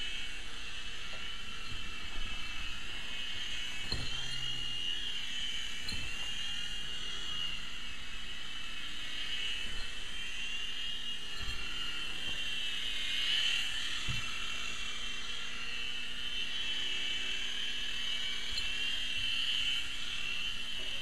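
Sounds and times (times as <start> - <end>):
toy helicopter motor whine: 0.0 - 21.0.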